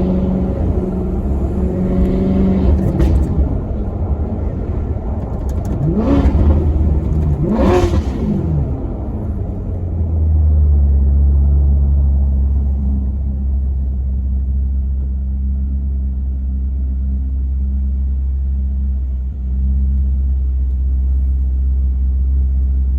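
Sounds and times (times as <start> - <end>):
car engine running at low revs: 0.0 - 22.9.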